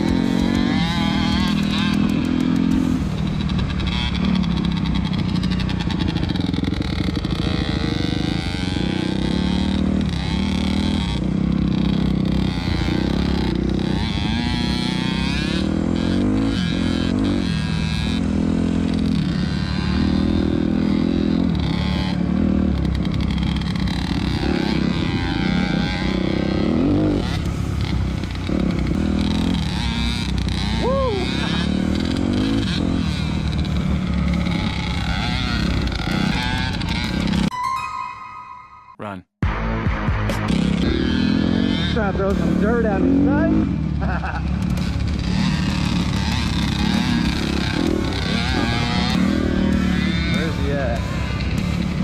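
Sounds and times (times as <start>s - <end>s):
dirt bike engine revving: 0.0s - 37.5s, 39.4s - 52.0s.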